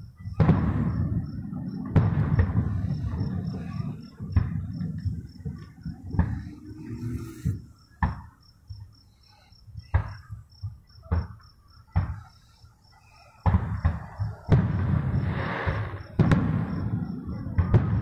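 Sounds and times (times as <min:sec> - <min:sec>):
crickets chirping: 0:00.0 - 0:18.0
fireworks bangs: 0:00.0 - 0:18.0.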